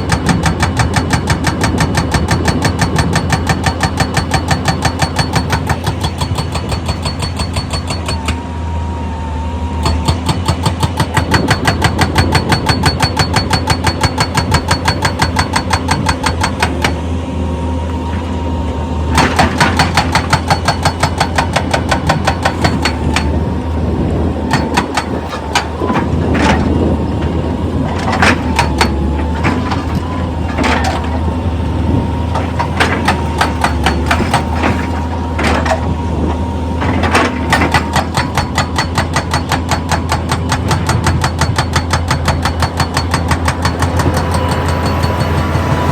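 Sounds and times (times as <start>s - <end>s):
machinery engine drone: 0.0s - 45.9s.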